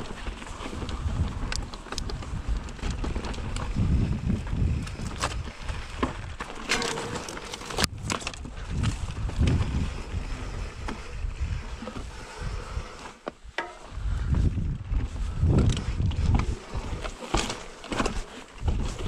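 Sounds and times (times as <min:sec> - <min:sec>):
bike rattling clicks and knocks: 0:00.0 - 0:12.0, 0:13.3 - 0:19.0
mountain bike rolling over rocks: 0:00.0 - 0:19.0
wind on microphone: 0:00.0 - 0:19.0.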